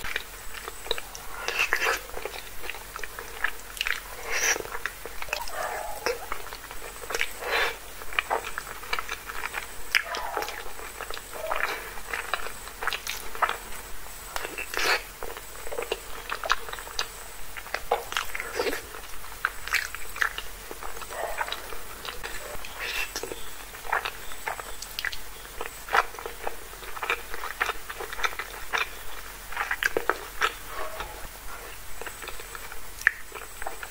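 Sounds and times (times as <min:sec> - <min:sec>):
wet chewing with smacks: 0:00.0 - 0:33.9.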